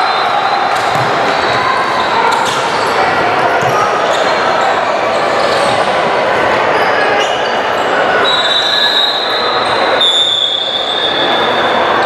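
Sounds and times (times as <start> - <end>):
gym crowd noise: 0.0 - 12.0.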